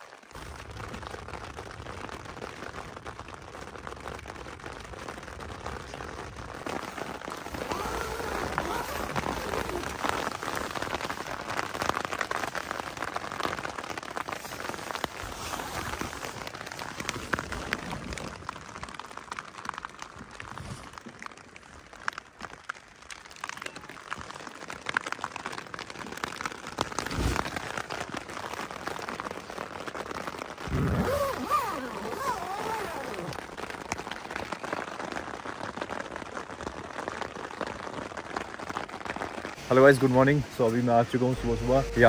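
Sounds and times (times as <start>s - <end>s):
rain falling: 0.0s - 42.0s
raindrops ticking on a surface: 0.0s - 42.0s.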